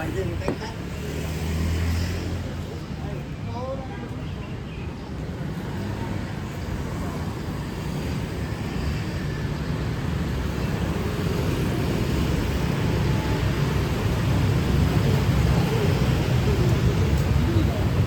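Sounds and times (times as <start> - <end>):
passing vehicles rumbling: 0.0 - 18.0.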